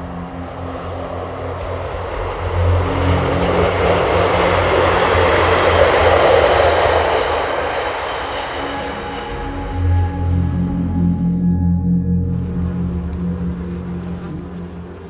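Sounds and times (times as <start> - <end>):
passing train rumble: 0.0 - 15.0.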